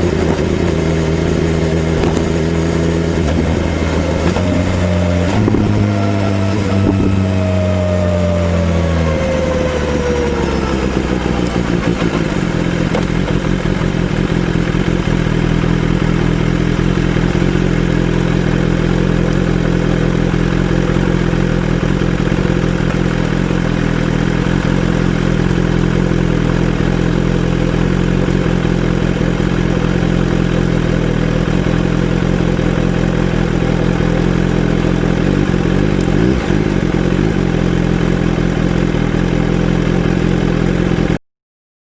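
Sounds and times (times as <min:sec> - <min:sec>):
motorcycle engine running: 0:00.0 - 0:41.2.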